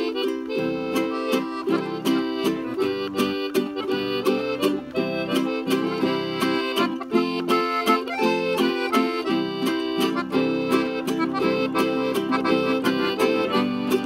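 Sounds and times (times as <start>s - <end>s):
accordion melody: 0.0s - 14.0s
acoustic guitar strumming: 0.0s - 14.0s
small four-string guitar strummed: 0.0s - 14.0s.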